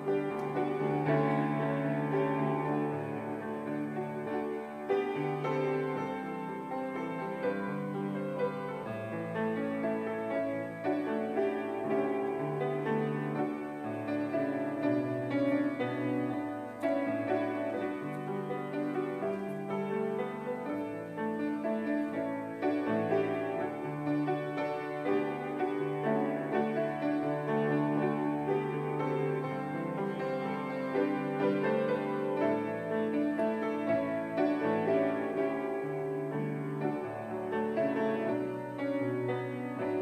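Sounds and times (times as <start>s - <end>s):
slow piano piece: 0.0s - 40.0s.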